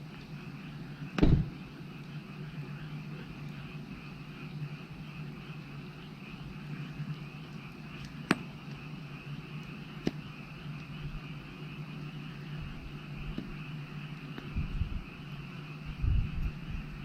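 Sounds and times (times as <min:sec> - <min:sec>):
frogs calling: 0:00.0 - 0:17.0
wood fire burning: 0:00.0 - 0:17.0.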